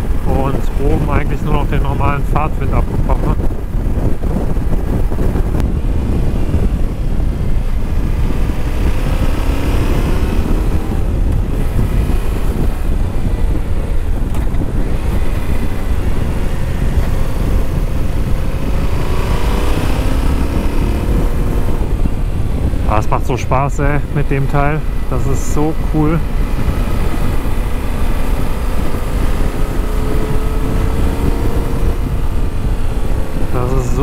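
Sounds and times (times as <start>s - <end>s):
wind rushing over microphone: 0.0s - 34.0s
motorcycle engine running: 2.9s - 23.0s, 23.6s - 34.0s.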